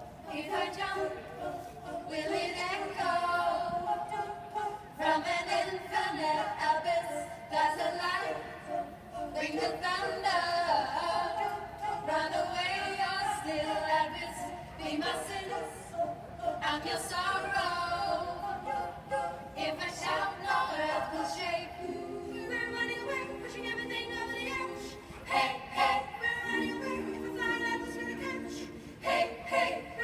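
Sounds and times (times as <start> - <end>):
women's choir singing a cappella: 0.0 - 30.0.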